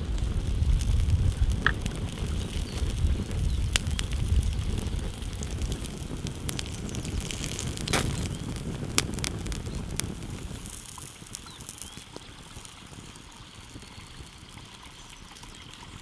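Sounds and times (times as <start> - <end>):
wind buffeting microphone: 0.0 - 13.1
sharp clicks and crackles: 0.0 - 13.2.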